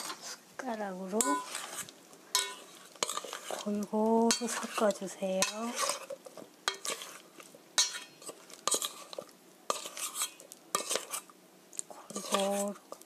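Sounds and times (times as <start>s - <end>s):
metal spoon scraping mixing bowl: 1.2s - 11.3s, 12.0s - 13.0s.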